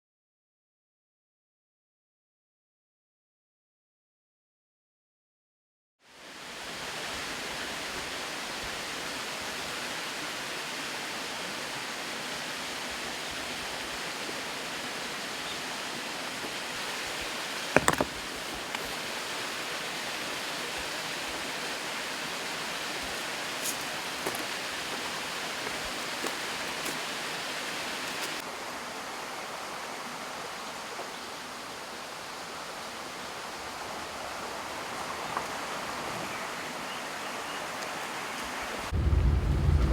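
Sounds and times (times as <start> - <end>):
fast-flowing water rushing: 6.1 - 39.8.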